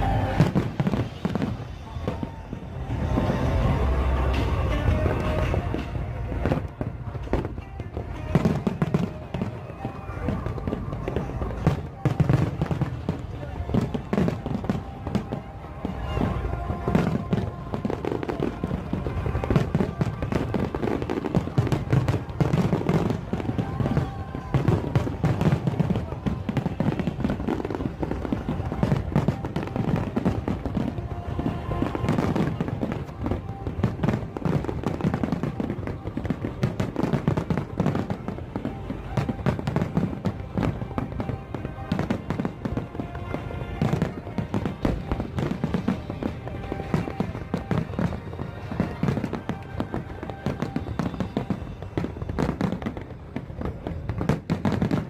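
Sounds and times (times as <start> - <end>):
fireworks bursting and crackling: 0.0 - 55.0
music playing: 0.0 - 55.0.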